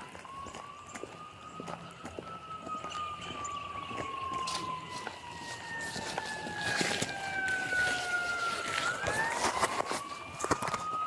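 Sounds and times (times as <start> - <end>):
emergency siren wailing: 0.0 - 11.0
footsteps and gear rustling: 0.0 - 11.0.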